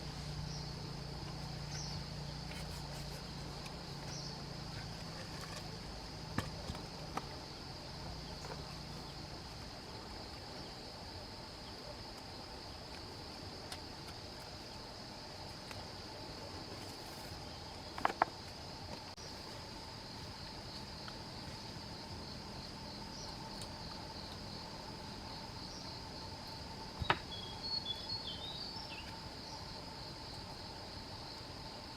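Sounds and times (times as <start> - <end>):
insects chirring: 0.0 - 31.9.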